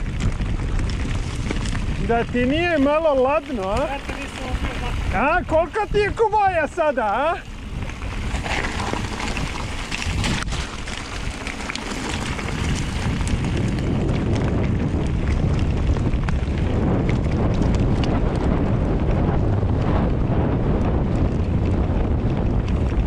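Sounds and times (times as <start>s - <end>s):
bike tyres rumbling over gravel: 0.0s - 23.0s
wind buffeting microphone: 0.0s - 23.0s.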